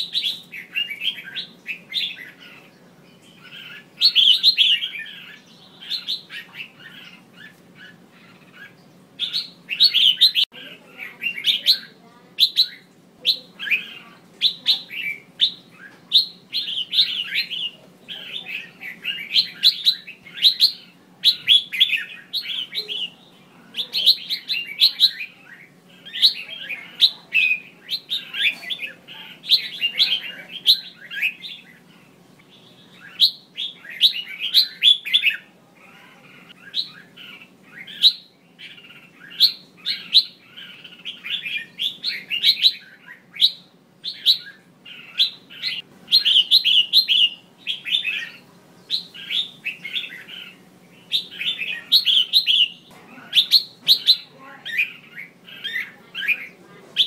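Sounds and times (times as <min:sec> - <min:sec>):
bulbul chirpy calls: 0:00.0 - 0:57.0.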